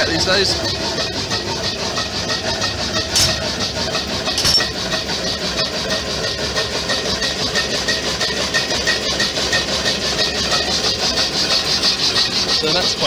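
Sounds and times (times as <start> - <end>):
engine running with mechanical beat: 0.0 - 13.0.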